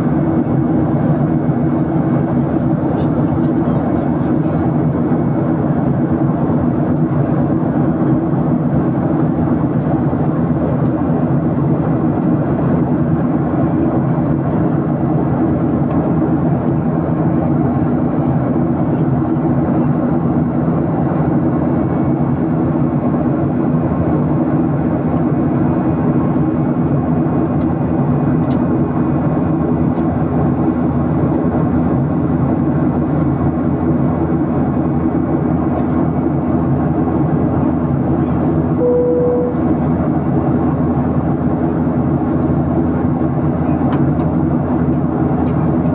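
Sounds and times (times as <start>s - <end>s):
airplane drone: 0.0s - 45.9s.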